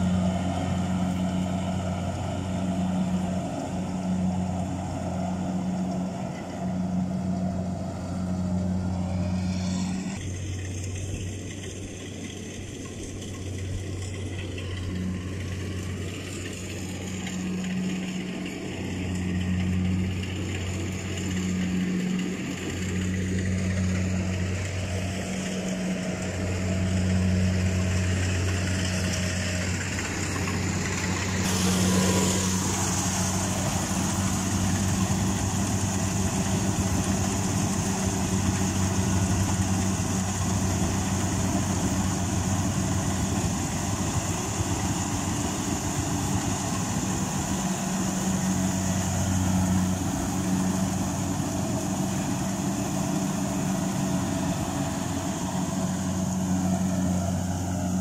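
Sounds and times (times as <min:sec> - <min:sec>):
combine harvester engine running: 0:00.0 - 0:58.0.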